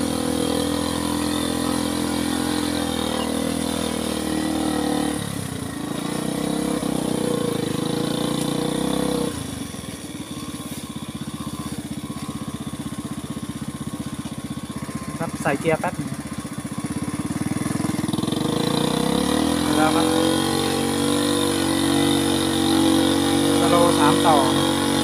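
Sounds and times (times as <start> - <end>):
truck engine pulling: 0.0 - 25.0.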